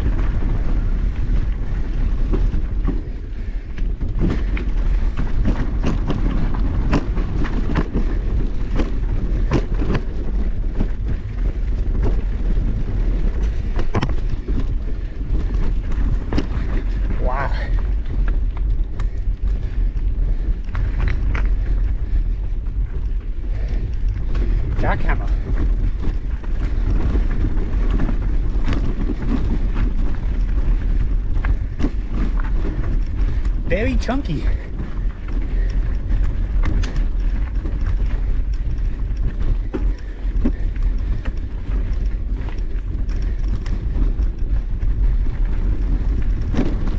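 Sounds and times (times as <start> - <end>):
bike rattling: 0.0 - 46.9
wind rumble on microphone: 0.0 - 46.9.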